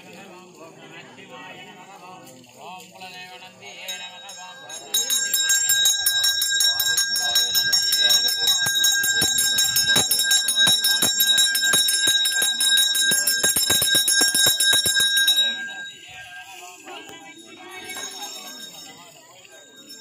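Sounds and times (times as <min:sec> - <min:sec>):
brass hand bell ringing: 0:03.4 - 0:20.0.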